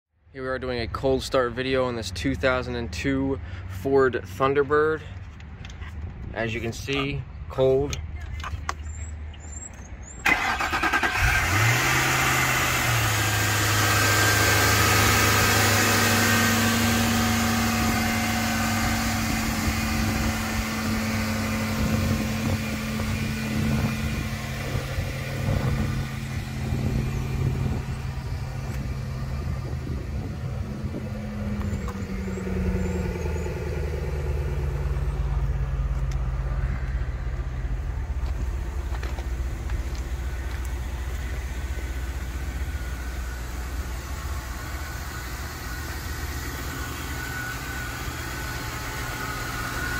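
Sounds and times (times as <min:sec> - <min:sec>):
car engine starting and idling: 0:07.9 - 0:49.9.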